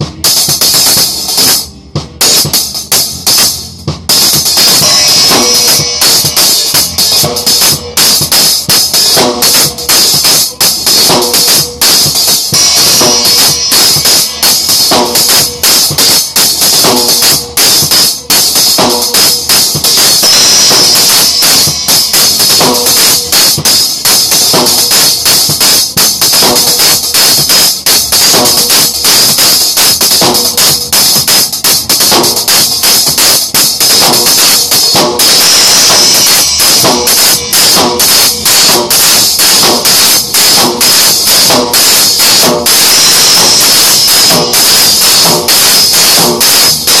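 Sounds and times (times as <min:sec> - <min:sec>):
drum strikes: 0:00.0 - 0:47.0
cymbals ringing: 0:00.2 - 0:47.0.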